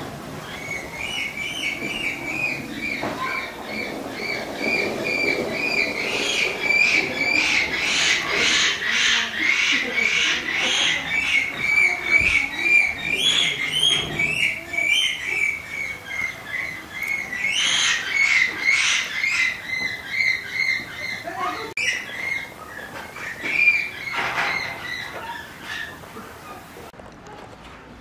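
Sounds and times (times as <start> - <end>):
high-pitched animal calls: 0.4 - 26.8.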